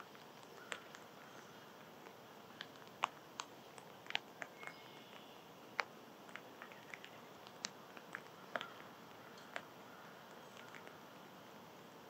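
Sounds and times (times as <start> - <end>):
small animal eating seed: 0.0 - 12.0.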